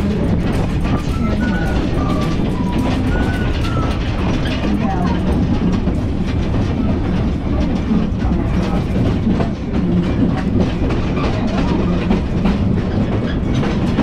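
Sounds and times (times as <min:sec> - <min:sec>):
train wheels rumbling on rail: 0:00.0 - 0:14.0
wheel clicks and clacks: 0:00.0 - 0:14.0.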